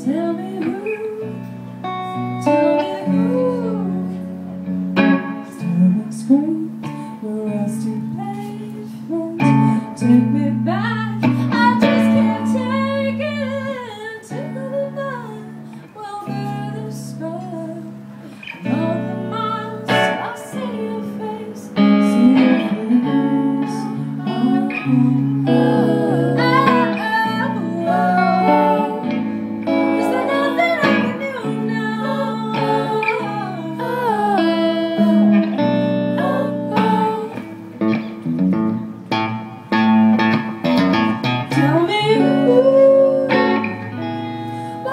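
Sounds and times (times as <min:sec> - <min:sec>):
woman singing: 0:00.0 - 0:38.0, 0:41.4 - 0:44.9
electric guitar: 0:00.0 - 0:44.9.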